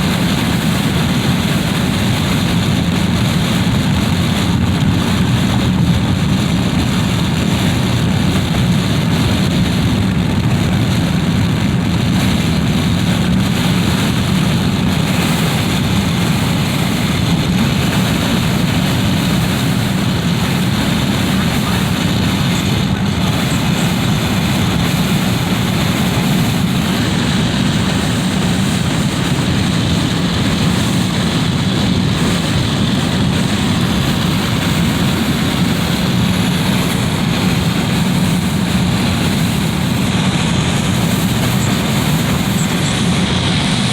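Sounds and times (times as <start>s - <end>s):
wind rushing through window: 0.0s - 43.9s.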